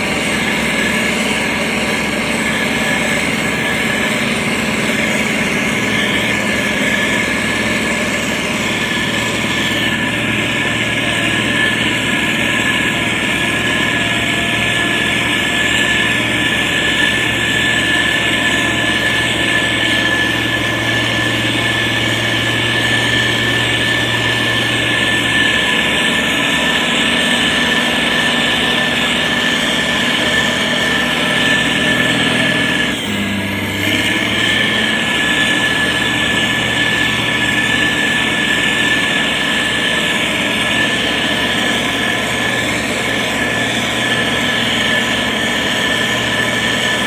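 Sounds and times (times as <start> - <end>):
diesel engine running: 0.0 - 47.0
high whine: 0.0 - 47.0.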